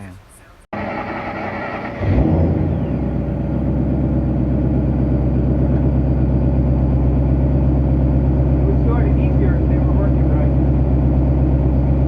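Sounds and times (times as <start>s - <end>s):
engine starting and idling: 0.8s - 12.0s.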